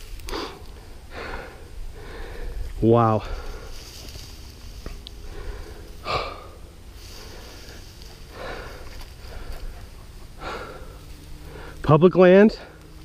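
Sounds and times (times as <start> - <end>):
person breathing out heavily: 0.2 - 4.2, 5.2 - 11.8.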